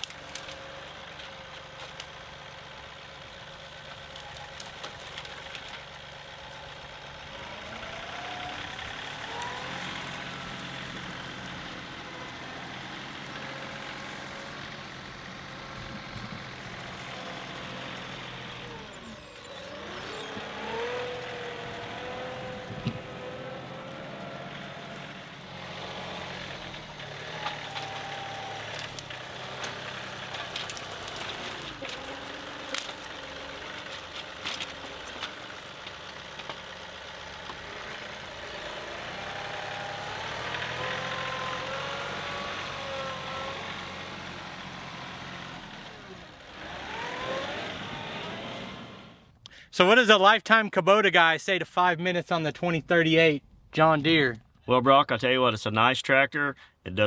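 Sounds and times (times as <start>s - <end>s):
tractor diesel engine under load: 0.0s - 55.4s.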